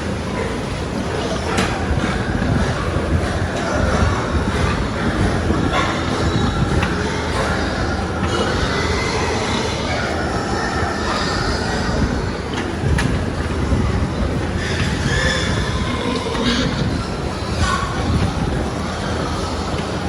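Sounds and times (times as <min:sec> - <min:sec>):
pigs squealing and grunting: 0:00.2 - 0:20.0.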